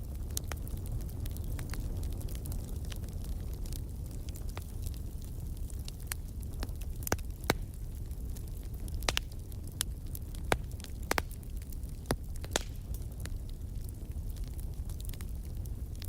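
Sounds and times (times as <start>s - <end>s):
burning logs crackling and popping: 0.0s - 16.0s
fire flames rumbling: 0.0s - 16.0s.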